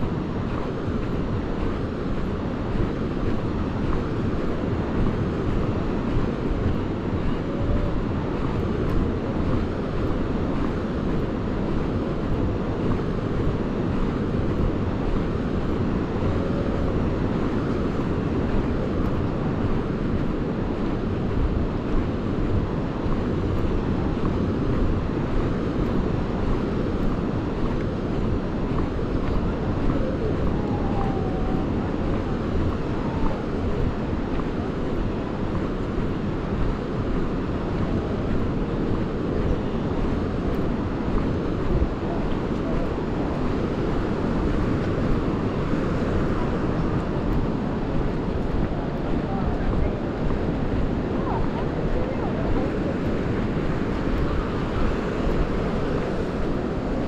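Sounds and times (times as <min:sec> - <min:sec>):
sea waves washing: 0:00.0 - 0:57.0
wind buffeting microphone: 0:00.0 - 0:57.0.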